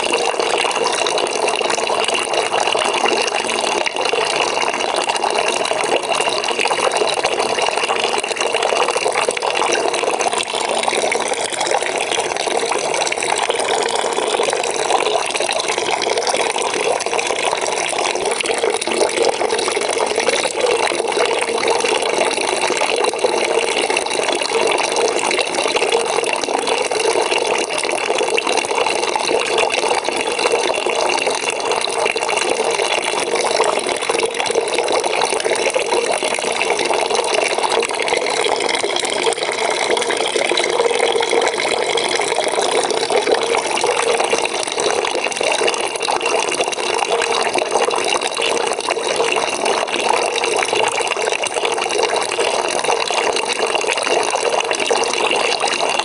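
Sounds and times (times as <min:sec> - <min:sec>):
tap water pouring into a bucket: 0:00.0 - 0:56.0.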